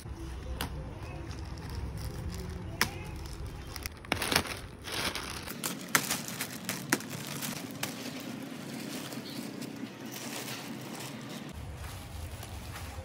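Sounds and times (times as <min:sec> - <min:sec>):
plastic wrapping crinkling: 0:00.2 - 0:13.0.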